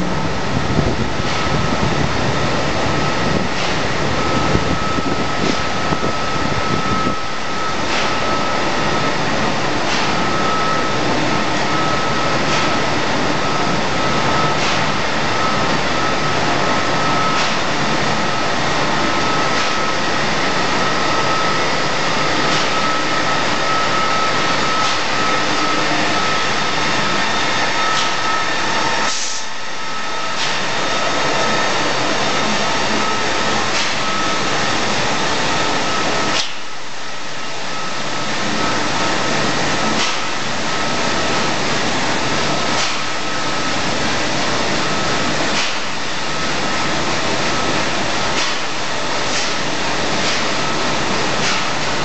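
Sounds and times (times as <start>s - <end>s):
high whine: 0.0s - 49.3s
machinery running: 0.0s - 52.0s.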